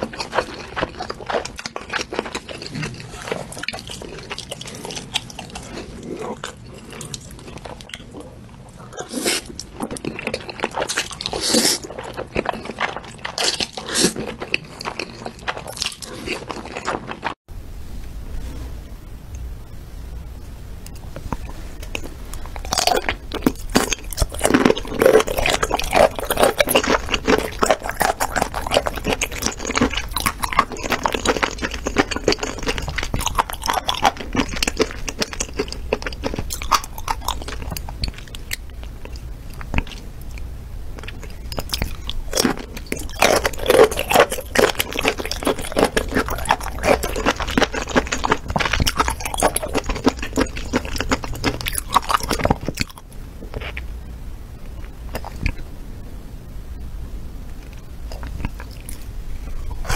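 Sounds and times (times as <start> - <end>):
person chewing shrimp: 0.0 - 17.4, 20.9 - 53.9, 54.6 - 55.6, 57.6 - 59.9.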